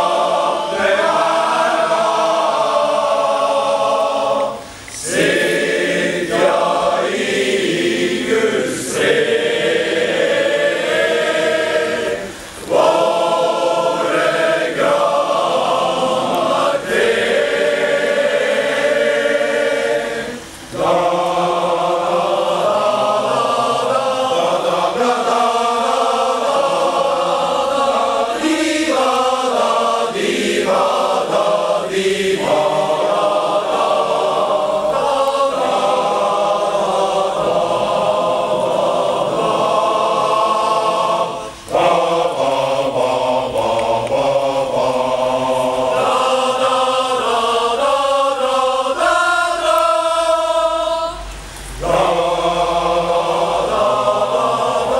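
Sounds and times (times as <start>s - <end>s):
men's choir singing: 0.0s - 54.9s.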